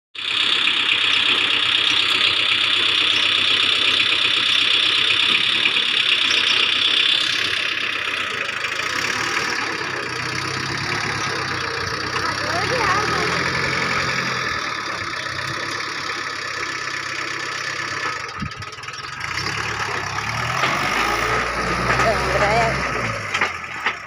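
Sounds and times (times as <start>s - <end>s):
tractor diesel engine running: 0.2s - 24.0s.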